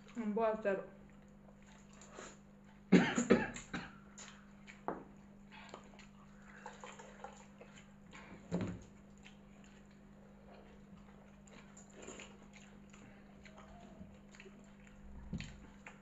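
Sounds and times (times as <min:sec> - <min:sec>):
steady low hum: 0:00.0 - 0:16.0
chewing and fingers in wet rice: 0:01.0 - 0:02.9, 0:03.5 - 0:16.0.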